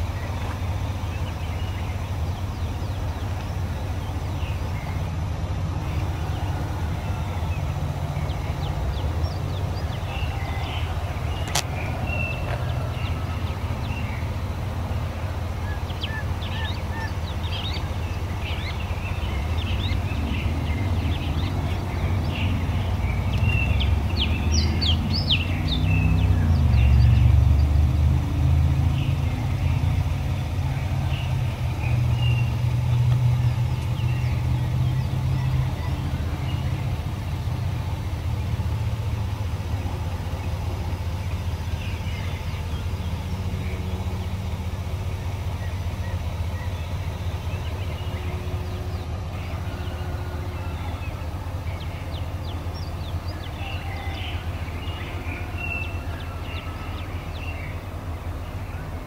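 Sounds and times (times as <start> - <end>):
birds chirping: 0.0 - 59.0
vehicle engine rumbling: 0.0 - 59.0.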